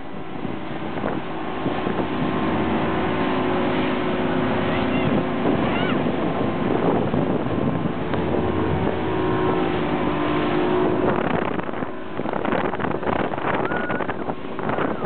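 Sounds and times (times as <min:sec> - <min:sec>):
motorboat engine running: 0:00.0 - 0:15.0
wind and water rushing: 0:00.0 - 0:15.0.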